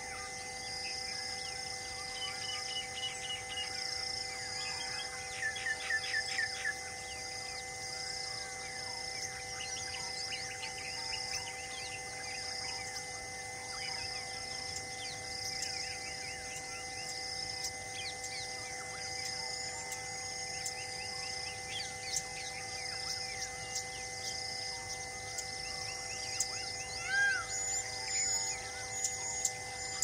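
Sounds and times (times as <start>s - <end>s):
faint steady hum of held tones: 0.0s - 30.0s
high insect-like pulse: 0.0s - 30.0s.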